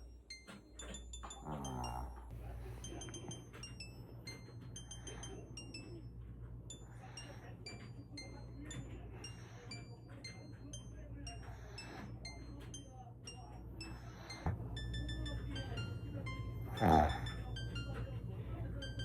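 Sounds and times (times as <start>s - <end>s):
low steady hum: 0.0s - 19.0s
tinkling music box melody: 0.0s - 19.0s.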